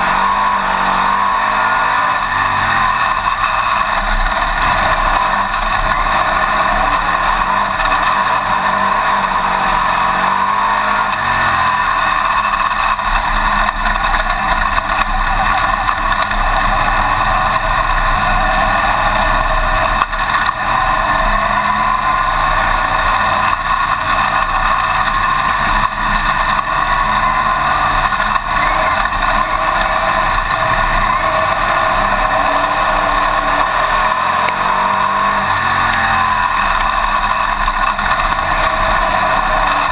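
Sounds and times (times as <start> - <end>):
race car engine running loudly: 0.0 - 39.9.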